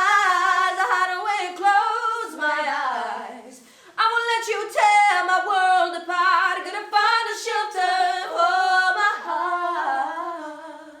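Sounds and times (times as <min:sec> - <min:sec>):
women singing a cappella: 0:00.0 - 0:11.0.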